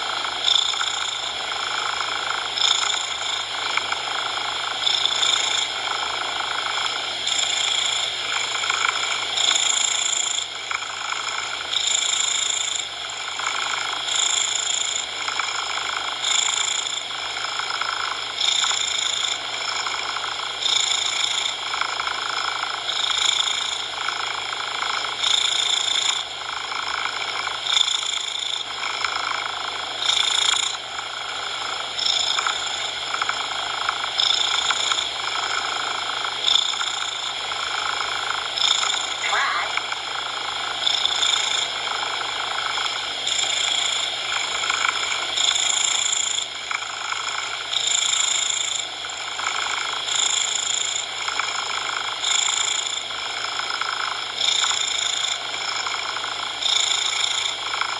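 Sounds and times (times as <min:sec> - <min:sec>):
steady noise: 0:00.0 - 0:18.4, 0:21.3 - 0:52.3
cat purring: 0:00.0 - 0:57.9.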